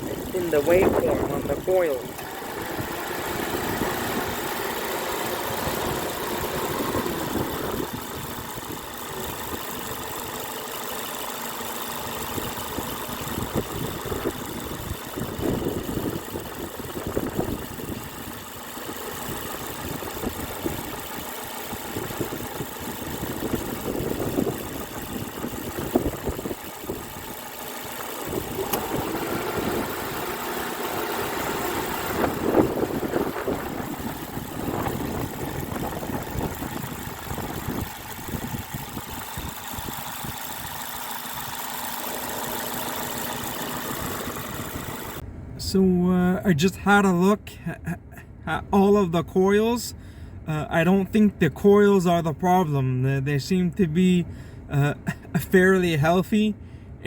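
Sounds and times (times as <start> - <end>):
car engine idling with misfire: 0.0 - 57.0.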